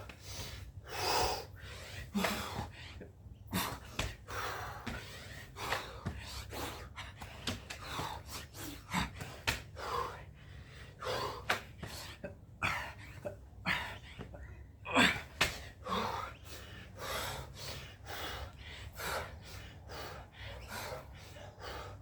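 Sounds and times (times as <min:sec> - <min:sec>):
person panting hard: 0:00.0 - 0:22.0.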